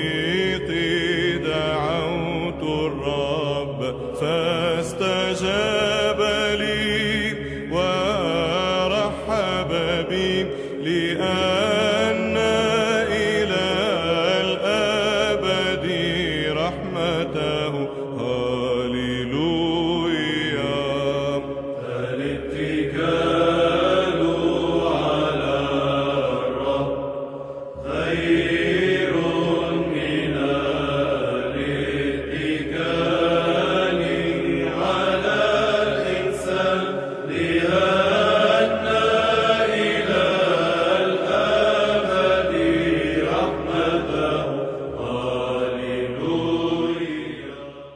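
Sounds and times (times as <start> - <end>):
steady low drone: 0.0 - 47.9.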